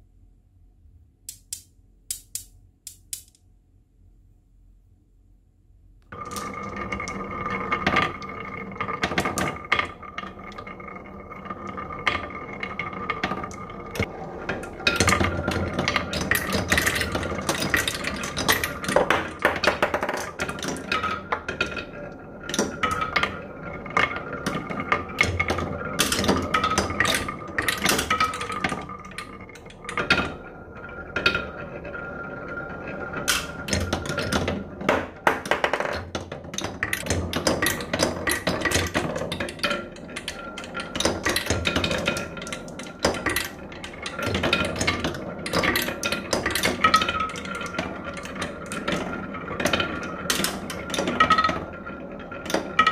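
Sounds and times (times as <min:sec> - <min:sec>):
marbles clicking and knocking: 0:01.3 - 0:03.4, 0:06.1 - 0:52.9
marbles rolling on wooden track: 0:06.1 - 0:52.9.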